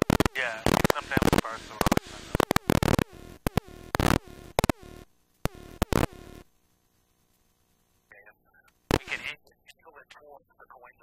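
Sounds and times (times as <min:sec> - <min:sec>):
crackling radio static: 0:00.0 - 0:11.0.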